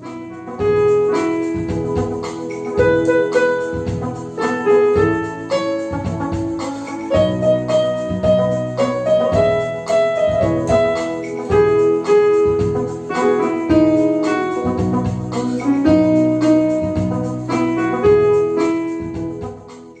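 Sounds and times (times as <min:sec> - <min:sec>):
electronic keyboard melody: 0:00.0 - 0:20.0.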